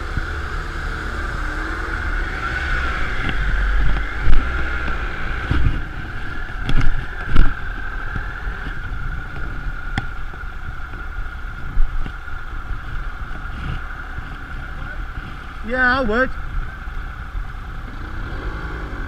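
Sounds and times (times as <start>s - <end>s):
low wind buffets on mic: 0.0s - 19.0s
motorcycle engine and road noise: 0.0s - 19.0s
wind rushing past microphone: 0.0s - 19.0s.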